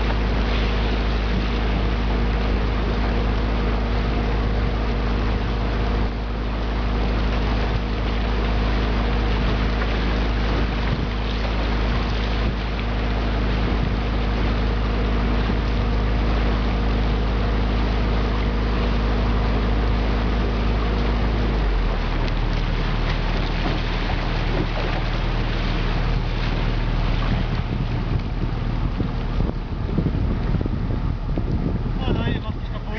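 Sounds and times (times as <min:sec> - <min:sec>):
motorboat engine running: 0:00.0 - 0:32.9
water rushing past: 0:00.0 - 0:32.9
wind on microphone: 0:00.0 - 0:32.9.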